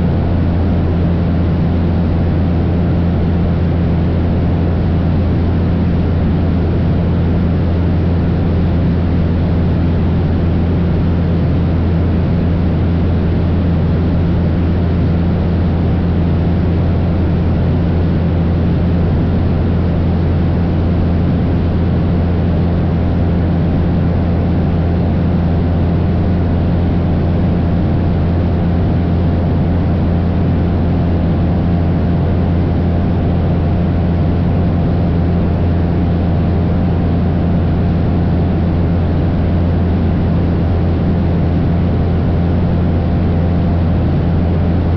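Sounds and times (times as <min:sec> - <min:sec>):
light airplane engine droning: 0:00.0 - 0:44.9.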